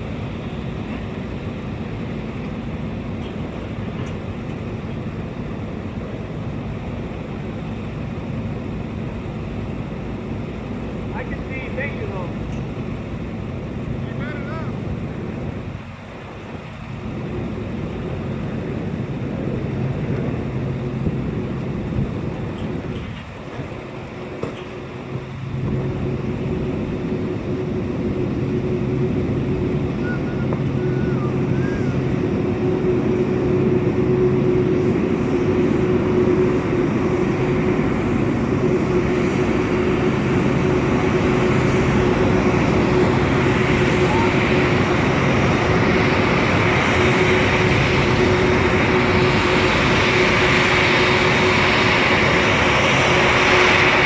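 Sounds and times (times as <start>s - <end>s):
aircraft engine hum: 0.0s - 54.0s.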